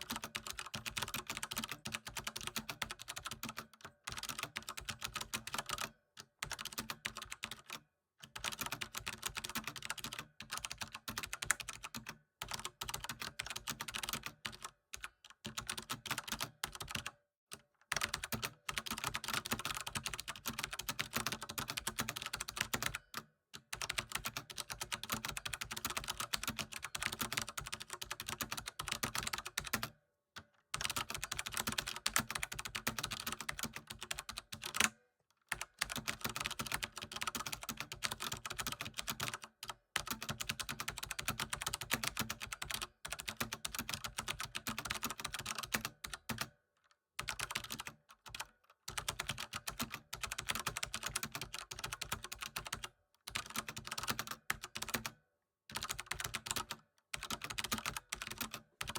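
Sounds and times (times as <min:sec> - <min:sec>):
computer keyboard typing: 0:00.0 - 0:30.0, 0:30.7 - 0:46.5, 0:47.2 - 0:58.9.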